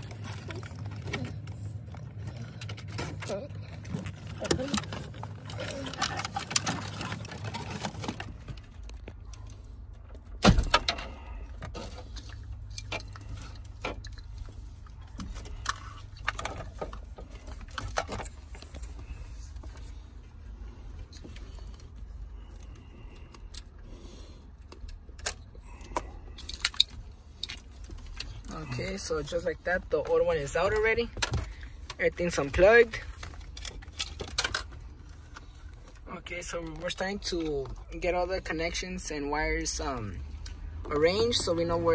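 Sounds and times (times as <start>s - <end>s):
wires and head unit clattering: 0.0s - 41.9s.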